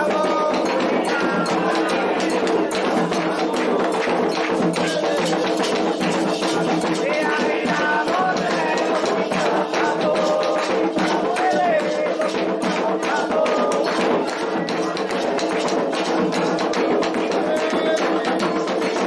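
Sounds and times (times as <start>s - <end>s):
hand drums and percussion: 0.0s - 19.0s
voices singing: 0.0s - 19.0s.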